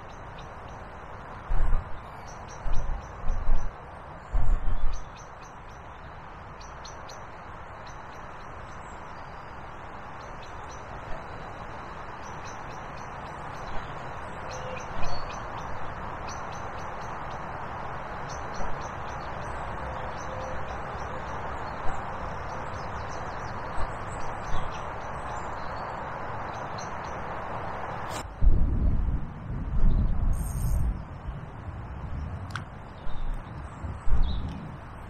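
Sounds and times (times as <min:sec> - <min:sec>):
small birds chirping: 0:00.0 - 0:28.2, 0:32.1 - 0:35.0
steady outdoor hiss: 0:00.0 - 0:35.0.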